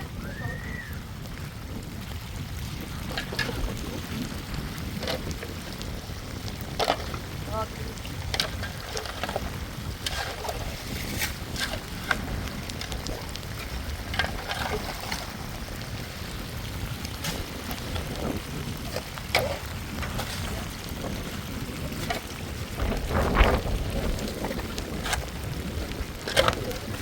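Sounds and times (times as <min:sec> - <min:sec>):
heavy rain falling: 0:00.0 - 0:27.0
raindrops tapping surfaces: 0:00.0 - 0:27.0
wind rumbling on microphone: 0:00.0 - 0:27.0.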